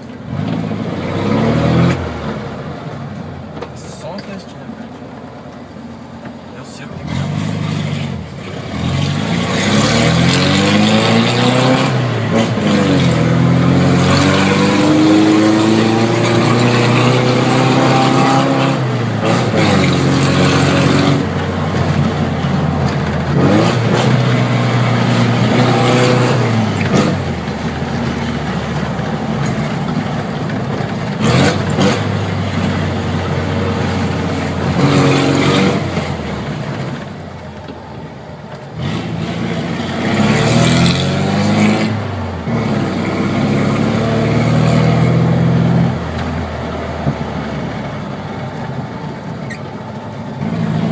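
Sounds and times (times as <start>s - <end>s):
car engine revving: 0.0s - 5.0s, 6.4s - 50.9s.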